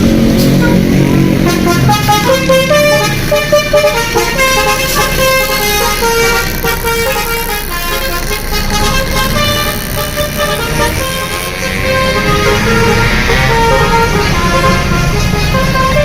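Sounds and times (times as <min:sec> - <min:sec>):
low engine and street rumble: 0:00.0 - 0:16.0
bus musical horn tune: 0:00.1 - 0:16.0.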